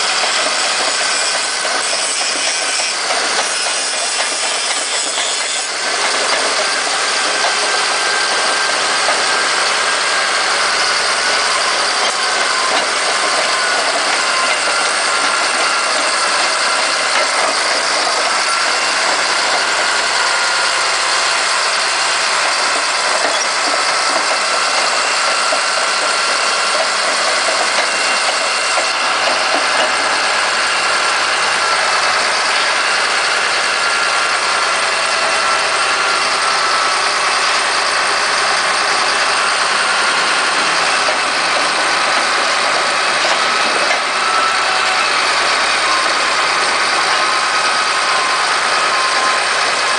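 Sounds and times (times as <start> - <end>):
bulldozer diesel engine running: 0.0 - 49.9
steady whine: 0.0 - 49.9.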